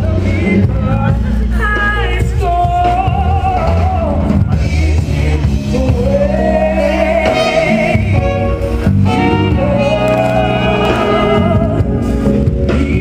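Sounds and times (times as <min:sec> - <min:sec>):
live band with horns: 0:00.0 - 0:13.0.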